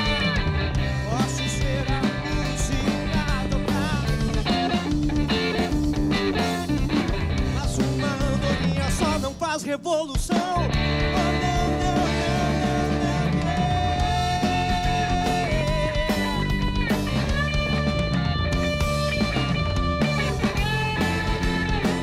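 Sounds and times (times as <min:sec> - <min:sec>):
live rock blues band: 0:00.0 - 0:09.5, 0:10.3 - 0:22.0
lead vocals: 0:00.0 - 0:22.0.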